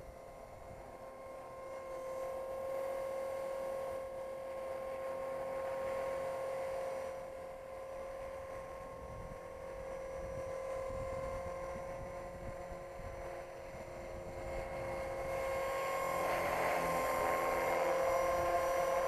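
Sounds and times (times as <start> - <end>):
toy helicopter motor whine: 0.0 - 19.0.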